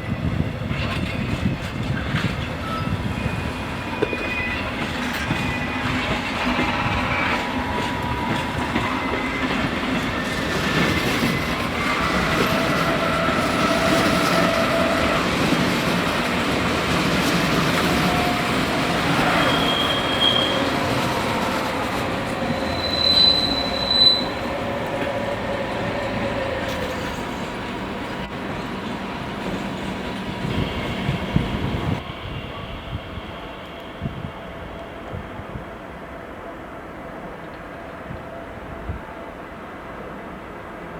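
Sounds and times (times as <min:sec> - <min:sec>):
train wheels squealing: 0:00.0 - 0:35.9
train rumbling past: 0:00.0 - 0:40.9.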